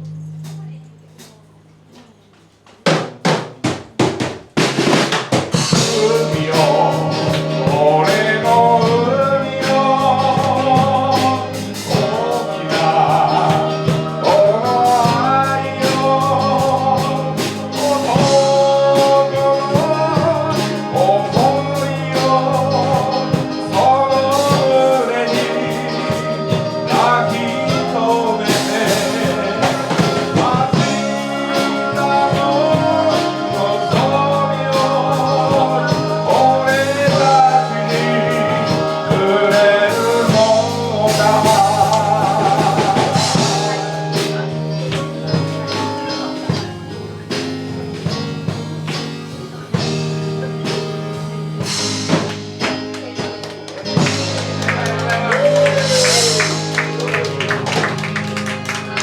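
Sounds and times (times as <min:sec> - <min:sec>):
person singing with live band: 0:02.8 - 0:59.0.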